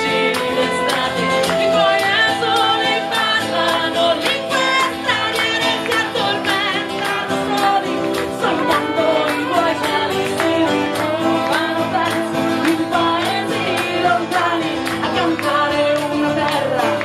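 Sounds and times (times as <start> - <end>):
acoustic guitar: 0.0 - 17.0
fiddle: 0.0 - 17.0
people singing: 0.0 - 17.0.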